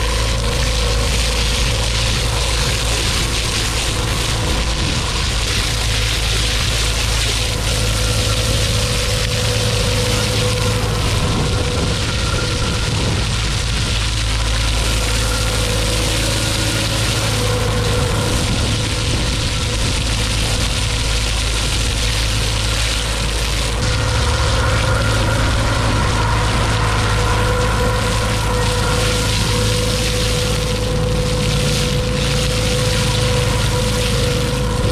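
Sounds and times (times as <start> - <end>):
engine and pump running: 0.0 - 34.9
slurry jetting from hose nozzle: 0.0 - 34.9.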